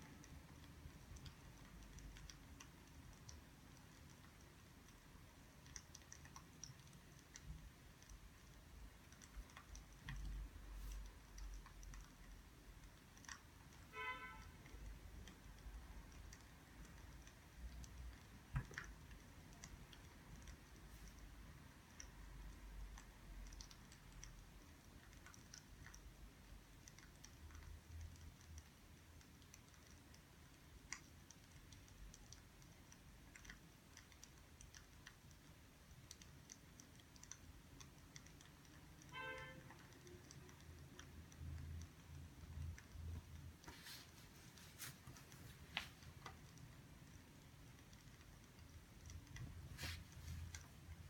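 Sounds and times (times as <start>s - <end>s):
faint clicks and ticks: 0.0s - 51.0s.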